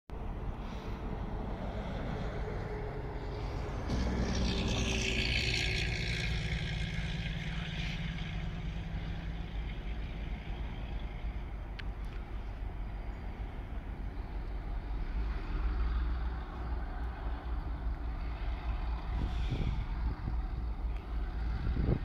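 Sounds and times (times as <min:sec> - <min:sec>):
diesel locomotive engines: 0:00.1 - 0:22.0.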